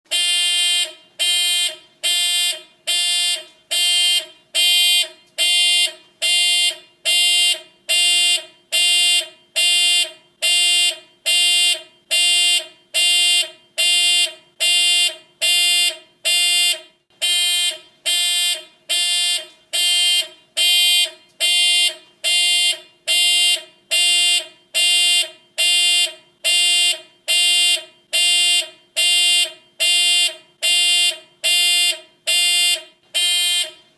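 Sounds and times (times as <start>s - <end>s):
alarm beeping: 0.1s - 33.8s.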